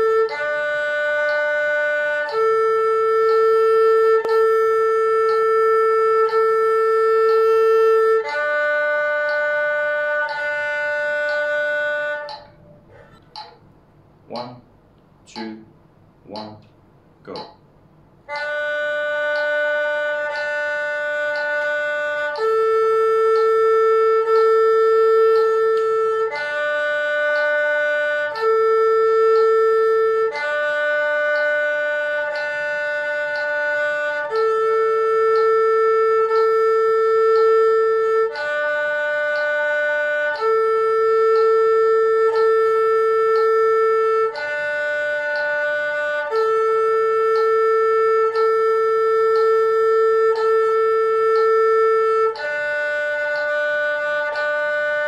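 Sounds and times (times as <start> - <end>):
erhu playing long notes: 0.0 - 16.6, 17.3 - 55.0
faint metronome tick: 0.0 - 55.0.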